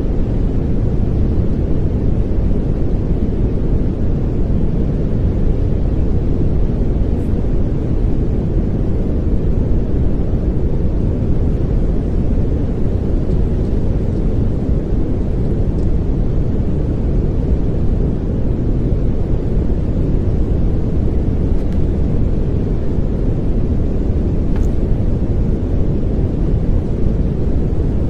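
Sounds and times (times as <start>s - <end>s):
deep pink noise hiss: 0.0s - 28.0s.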